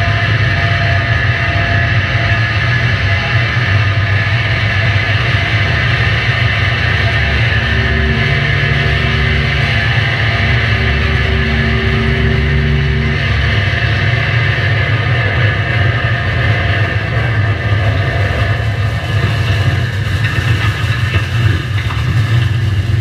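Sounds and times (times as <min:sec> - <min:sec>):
noise drone guitar music: 0:00.0 - 0:23.0.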